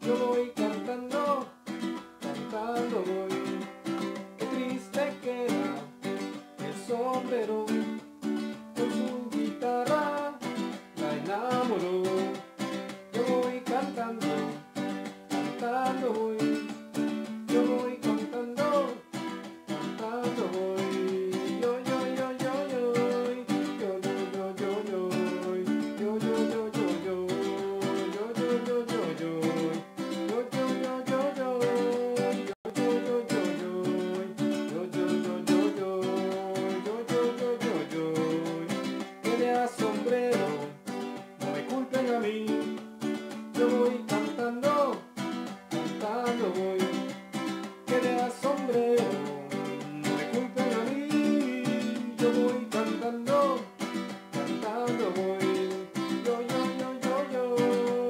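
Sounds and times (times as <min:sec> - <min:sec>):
ukulele strumming: 0:00.0 - 0:58.0.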